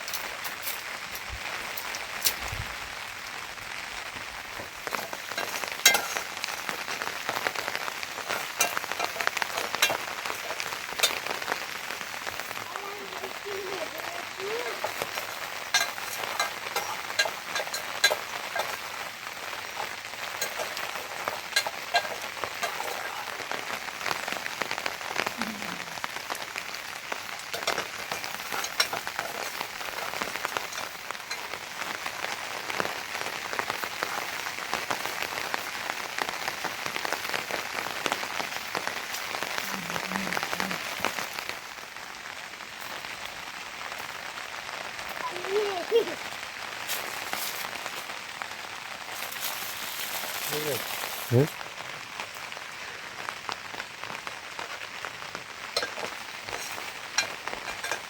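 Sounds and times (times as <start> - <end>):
rain drops ticking on surface: 0.0 - 58.0.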